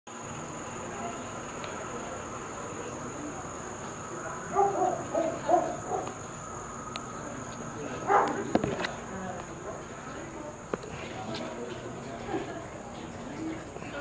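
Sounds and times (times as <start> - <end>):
distant indistinct voices: 0.1 - 14.0
room ambience hiss: 0.1 - 14.0.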